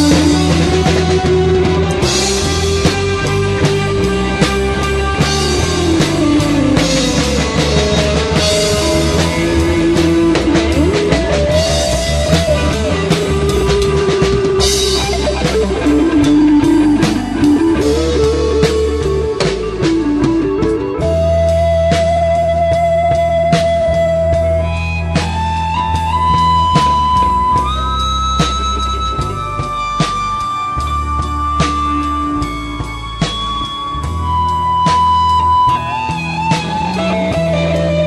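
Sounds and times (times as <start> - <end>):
lead electric guitar bending notes: 0.0 - 38.0
rock band playing: 0.0 - 38.0.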